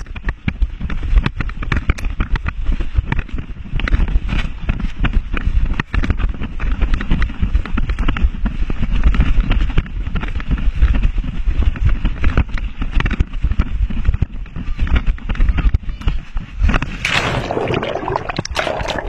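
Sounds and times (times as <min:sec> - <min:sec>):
camera rumble and jolting: 0:00.0 - 0:19.0.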